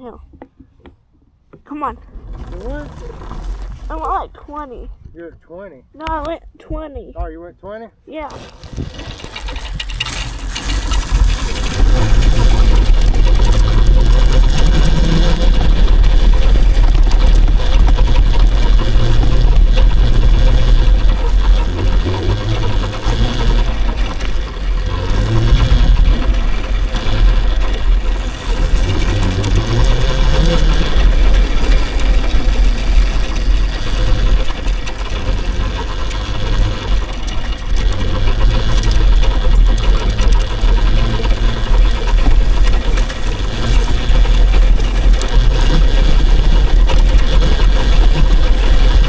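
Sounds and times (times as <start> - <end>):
electric motor whine: 1.5 - 5.2, 8.1 - 49.0
wind buffeting microphone: 8.4 - 49.0.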